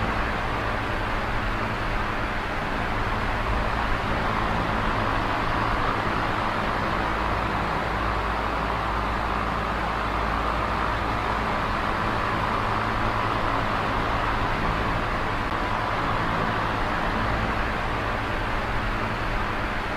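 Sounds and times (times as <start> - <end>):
electric fan running: 0.0 - 19.9.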